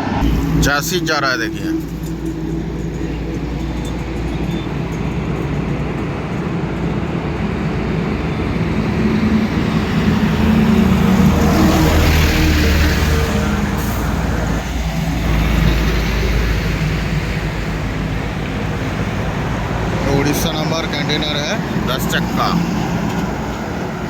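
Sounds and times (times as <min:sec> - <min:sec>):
truck engine hum: 0:00.0 - 0:24.0
tyre and road noise: 0:00.0 - 0:24.0.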